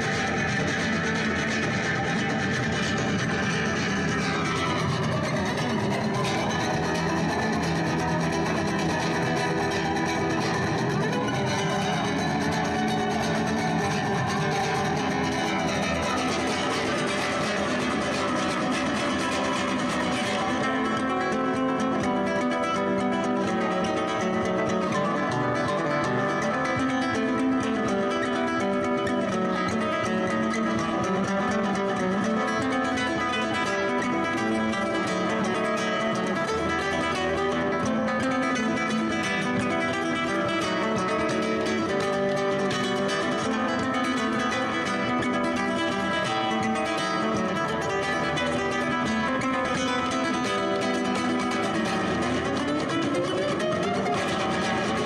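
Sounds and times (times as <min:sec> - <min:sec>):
guitar music: 0:00.0 - 0:55.0.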